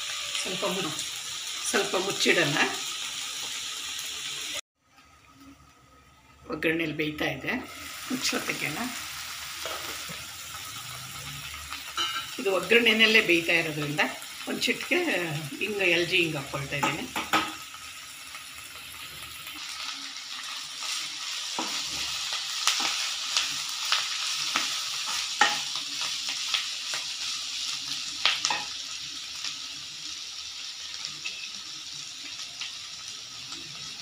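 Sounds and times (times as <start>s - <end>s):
vegetables sizzling in a pan: 0.0s - 34.0s.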